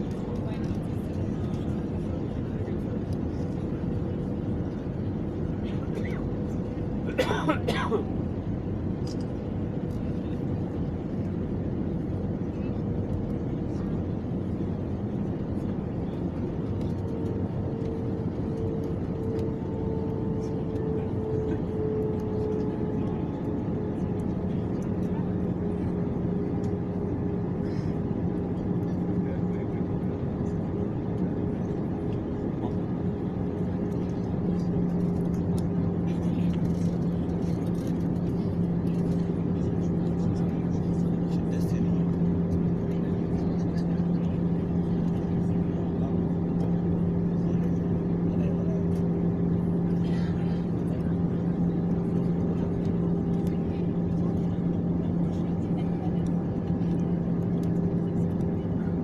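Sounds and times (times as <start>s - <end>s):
airliner engine drone: 0.0s - 59.0s
constant low hum: 0.0s - 59.0s.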